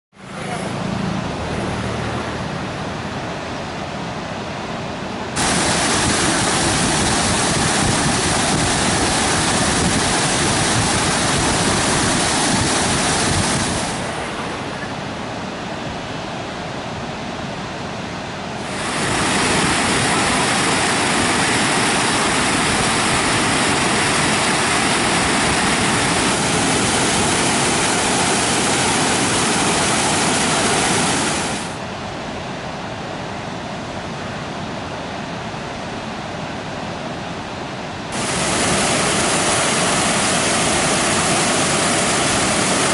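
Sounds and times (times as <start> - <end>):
water roaring through spillway: 0.2 - 42.9.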